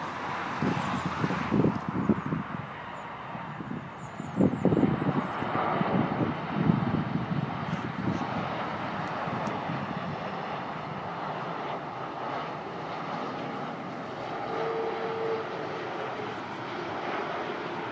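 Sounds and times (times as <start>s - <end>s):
jet airliner passing overhead: 0.0s - 17.9s.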